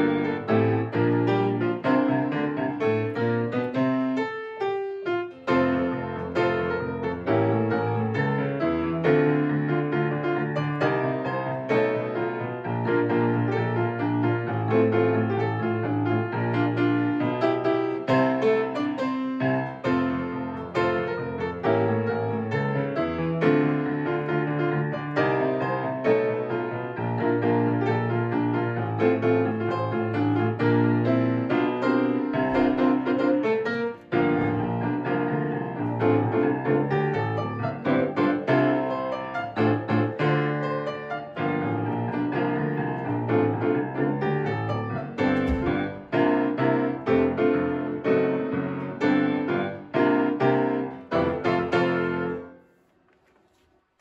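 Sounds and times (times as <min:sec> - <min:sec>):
solo grand piano: 0:00.0 - 0:54.0.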